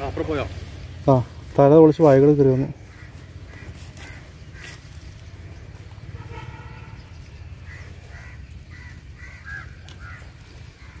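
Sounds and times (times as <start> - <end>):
crows cawing: 2.0 - 11.0.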